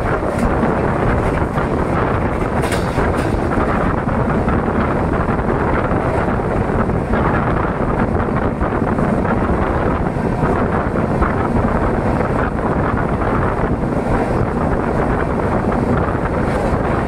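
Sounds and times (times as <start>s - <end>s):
train rumbling: 0.0s - 17.0s
wind on microphone: 0.0s - 17.0s.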